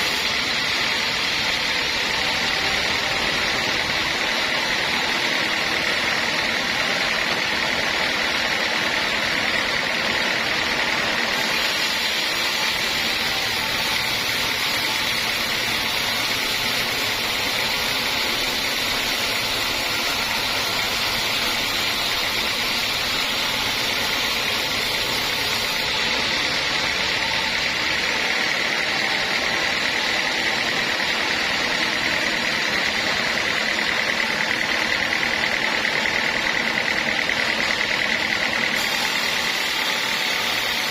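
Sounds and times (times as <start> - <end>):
band sawmill sawing log: 0.0 - 40.9.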